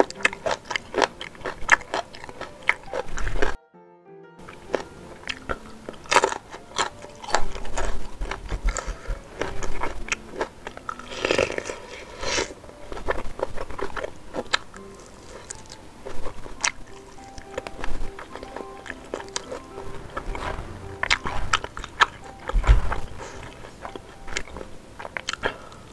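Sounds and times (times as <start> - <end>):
crunchy food chewing: 0.0 - 3.6, 4.4 - 25.9.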